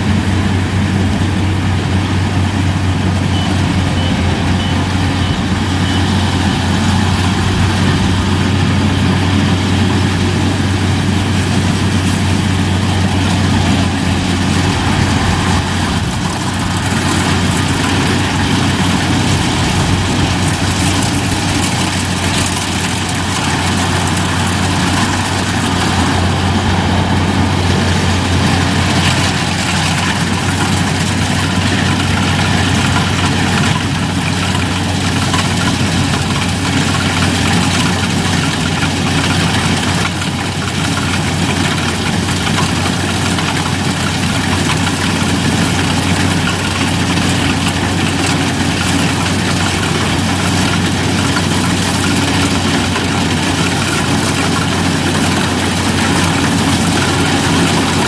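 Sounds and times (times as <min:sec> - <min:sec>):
combine harvester engine hum: 0:00.0 - 0:58.0
grain pouring into truck bed: 0:08.0 - 0:58.0.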